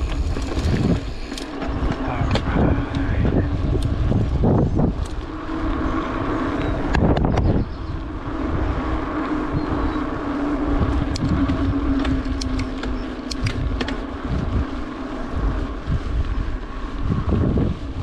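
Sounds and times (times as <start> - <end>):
bike clicks and rattles: 0.0 - 18.0
bike tyres on rough pavement: 0.0 - 18.0
wind buffeting microphone: 0.0 - 18.0.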